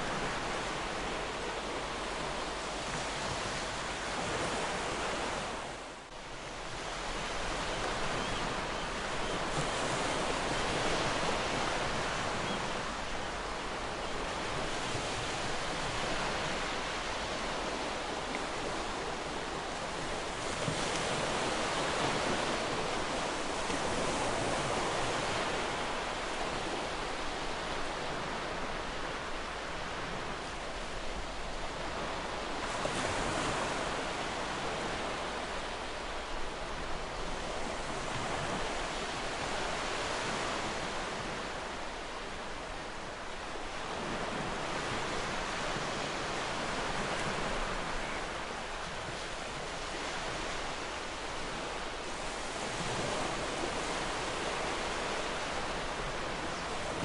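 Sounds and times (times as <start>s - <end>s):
ocean waves washing ashore: 0.0s - 57.0s.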